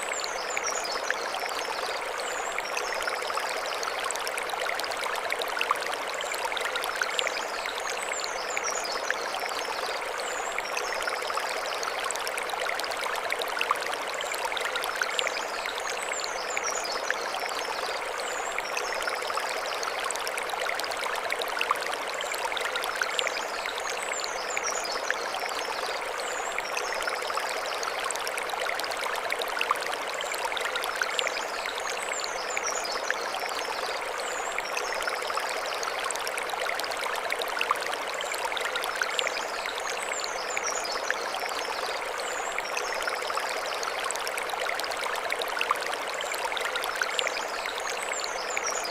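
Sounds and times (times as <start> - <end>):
stream flowing over stones: 0.0 - 48.9.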